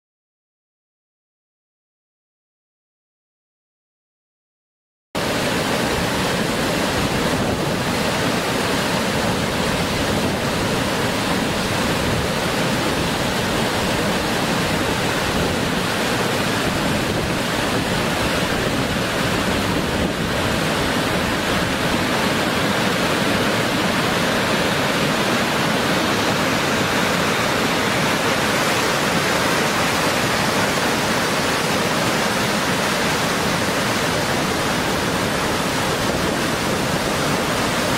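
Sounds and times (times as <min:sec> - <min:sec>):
waterfall rushing: 0:05.2 - 0:37.9.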